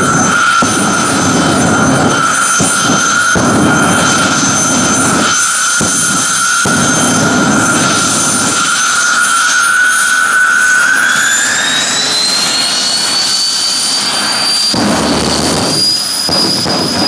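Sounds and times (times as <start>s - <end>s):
afterburner rumble pulsing: 0.0s - 17.0s
jet turbine whine: 0.0s - 17.0s.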